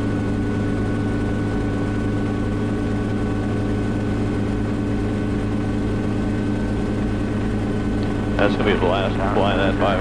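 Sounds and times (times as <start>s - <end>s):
helicopter engine and rotor drone: 0.0s - 10.0s.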